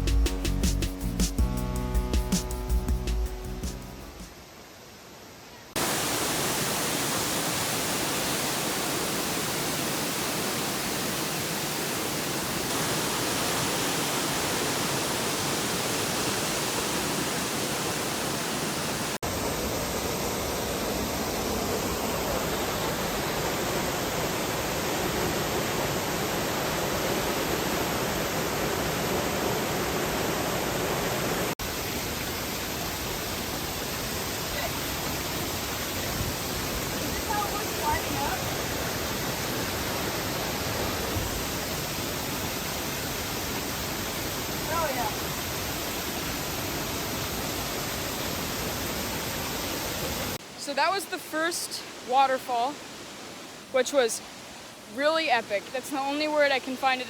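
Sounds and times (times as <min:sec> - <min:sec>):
waterfall rushing: 0:05.8 - 0:57.0.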